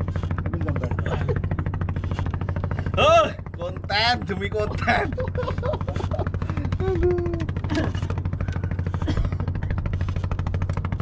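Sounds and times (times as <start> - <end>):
boat engine puttering: 0.0 - 11.0.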